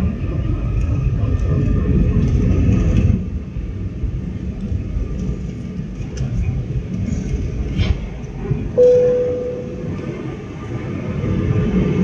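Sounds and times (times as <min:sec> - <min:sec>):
airliner cabin rumble: 0:00.0 - 0:12.0
faint engine hum: 0:00.0 - 0:12.0.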